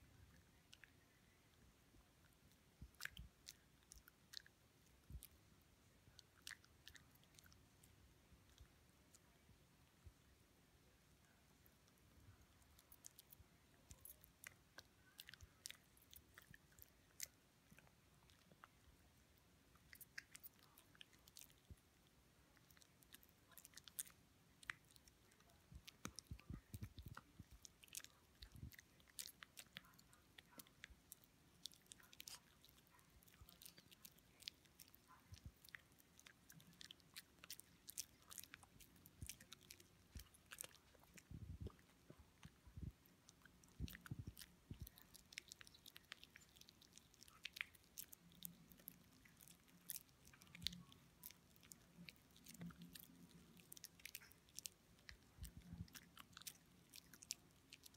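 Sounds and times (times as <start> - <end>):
dog chewing and crunching: 6.1 - 8.7, 12.3 - 18.8, 19.7 - 57.9.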